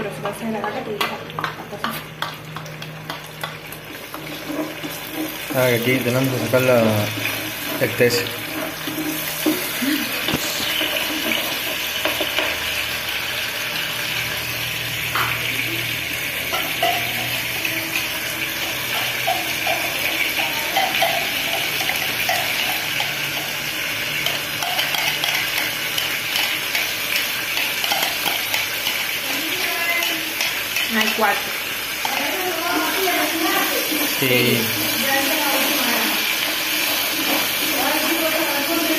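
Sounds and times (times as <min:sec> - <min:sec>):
vegetables sizzling in oil: 0:00.0 - 0:38.9
metal spoon stirring pan: 0:00.2 - 0:12.9, 0:16.3 - 0:38.9.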